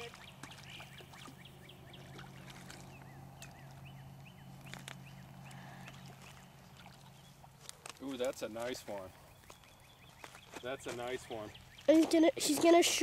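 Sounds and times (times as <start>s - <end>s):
pond water splashing: 0.0s - 13.0s.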